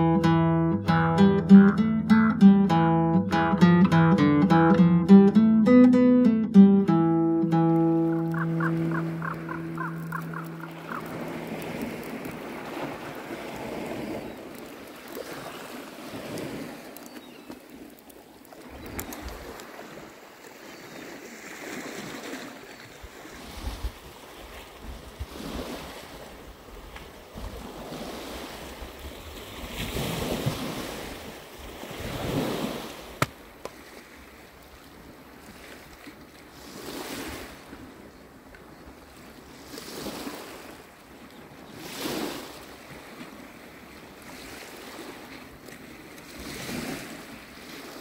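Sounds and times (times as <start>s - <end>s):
waves on pebble beach: 7.5s - 48.0s.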